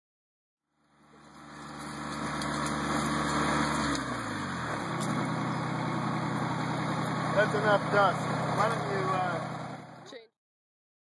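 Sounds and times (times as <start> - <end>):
small tractor engine running: 0.7 - 10.2.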